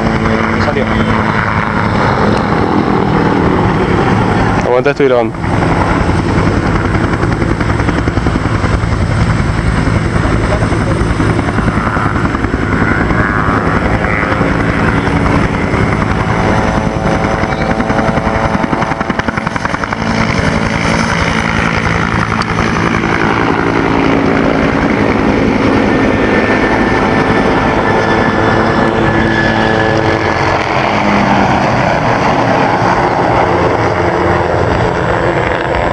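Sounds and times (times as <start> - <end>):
helicopter rotor and turbine: 0.0 - 35.9.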